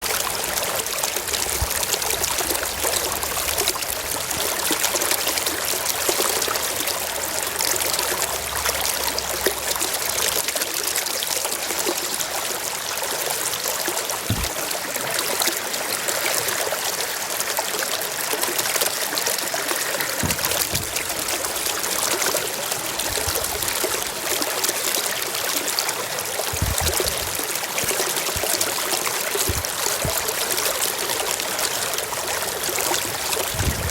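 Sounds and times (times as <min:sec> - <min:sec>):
water flowing: 0:00.0 - 0:33.9.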